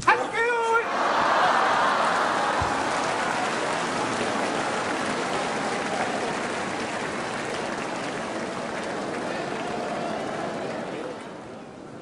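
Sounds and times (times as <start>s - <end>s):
crowd cheering and clapping: 0.8s - 11.5s.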